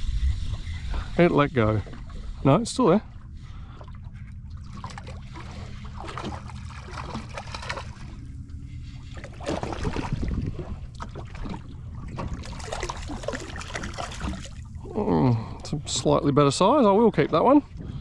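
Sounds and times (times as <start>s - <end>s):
steady low hum: 0.0s - 18.0s
water splashing and trickling: 0.0s - 18.0s.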